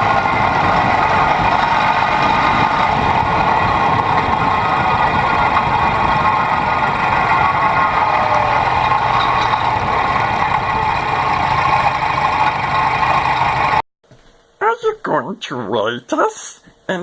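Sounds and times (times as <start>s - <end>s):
lawn tractor engine running: 0.0s - 13.8s.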